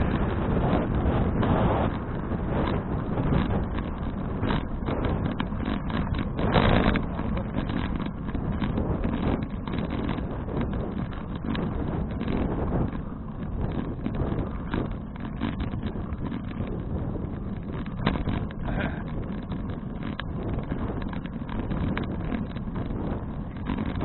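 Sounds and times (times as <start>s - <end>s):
bicycle clicks and rattles: 0.0s - 24.0s
steady low rumble: 0.0s - 24.0s
wind buffeting microphone: 0.0s - 24.0s.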